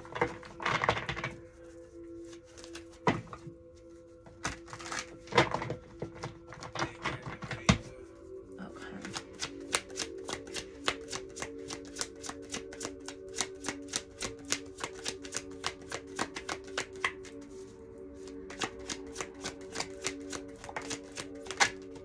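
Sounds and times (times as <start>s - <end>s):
background music with held notes: 0.0s - 22.0s
cards being shuffled: 2.2s - 3.4s, 4.3s - 8.0s, 9.0s - 22.0s.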